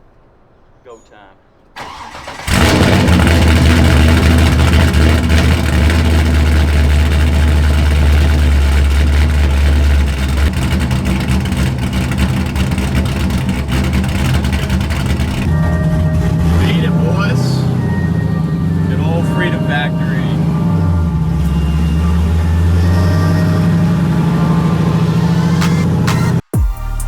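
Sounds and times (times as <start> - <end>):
race car engine starting and idling: 1.6 - 27.0.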